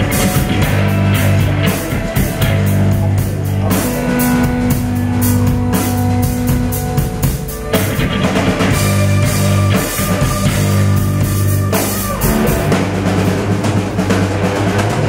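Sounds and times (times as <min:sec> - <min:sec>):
drum kit beating: 0:00.0 - 0:15.0
electric guitar: 0:00.0 - 0:15.0
low bass notes: 0:00.0 - 0:15.0
rock band playing loud: 0:00.0 - 0:15.0.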